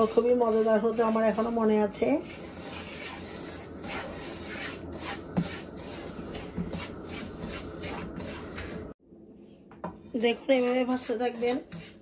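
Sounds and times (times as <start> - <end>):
spatula scraping semolina in pan: 0.0 - 9.0, 10.2 - 12.0.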